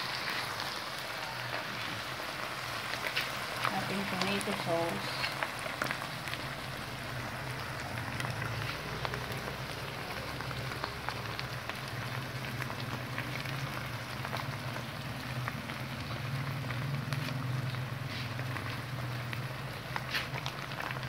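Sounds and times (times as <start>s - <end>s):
food sizzling in frying pan: 0.0s - 21.0s.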